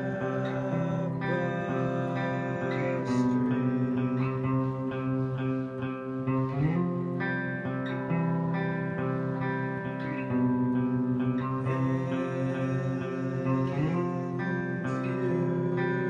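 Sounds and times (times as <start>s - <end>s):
instrumental guitar music: 0.0s - 16.0s.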